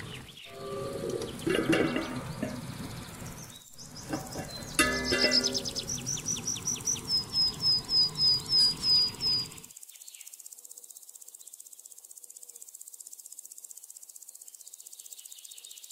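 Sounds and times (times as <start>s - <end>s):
crickets trilling: 0.0s - 15.9s.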